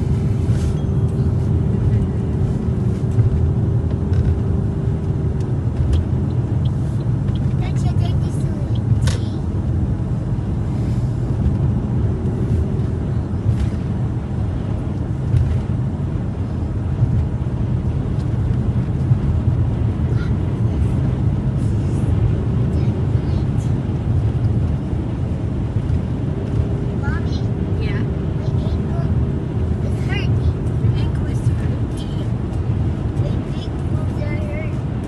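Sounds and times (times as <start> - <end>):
tyre and engine drone in car: 0.0 - 35.0.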